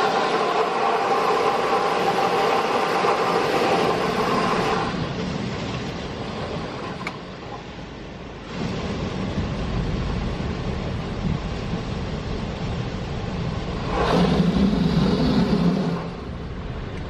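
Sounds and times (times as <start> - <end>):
car wash water spray: 0.0 - 17.0.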